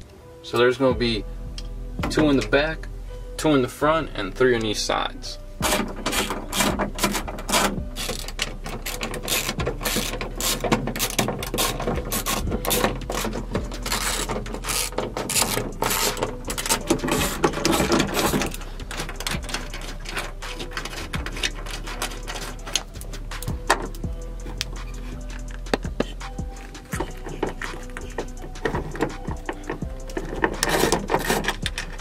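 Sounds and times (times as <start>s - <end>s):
socket ratchet clicking: 5.6s - 32.0s.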